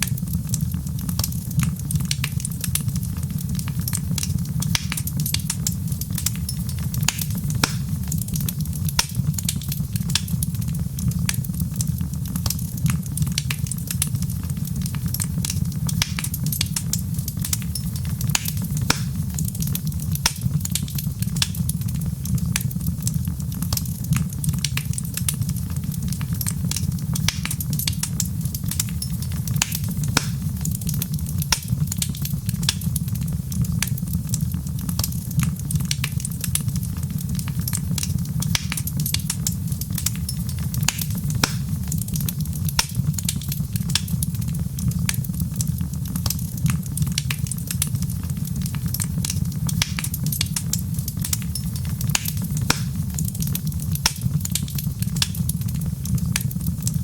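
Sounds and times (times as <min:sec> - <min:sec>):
fire rumbling: 0:00.0 - 0:57.0
wood fire popping and snapping: 0:00.0 - 0:57.0.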